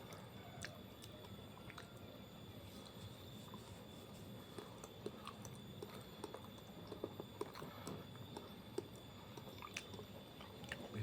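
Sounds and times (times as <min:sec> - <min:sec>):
person chewing close to microphone: 0:00.0 - 0:11.0.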